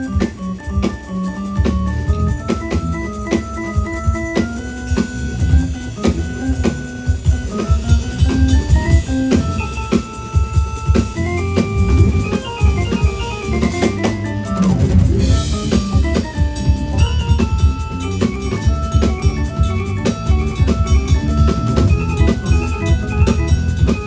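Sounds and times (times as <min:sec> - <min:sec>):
instrumental melody: 0:00.0 - 0:24.0
quick drum beats: 0:00.0 - 0:24.0.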